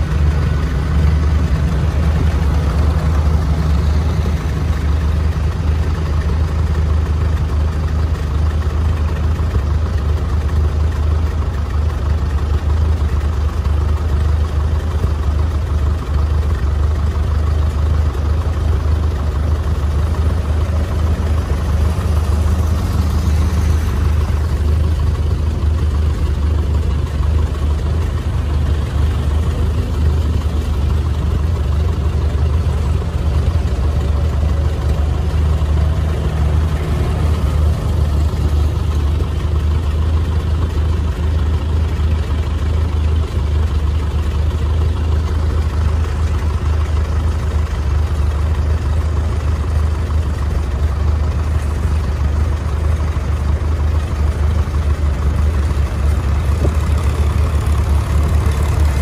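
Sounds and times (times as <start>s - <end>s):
tractor engines droning: 0.0s - 59.0s.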